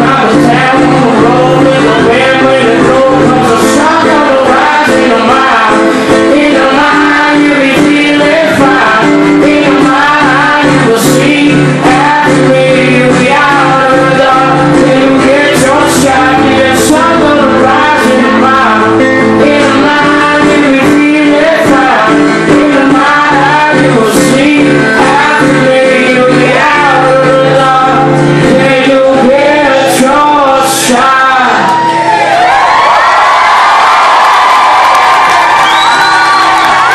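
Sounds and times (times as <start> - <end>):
strummed acoustic guitar: 0.0 - 31.2
man singing: 0.0 - 32.0.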